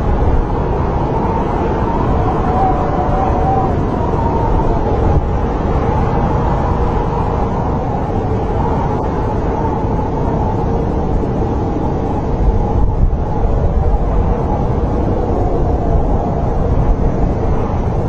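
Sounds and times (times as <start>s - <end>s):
snowstorm wind howling: 0.0s - 18.0s.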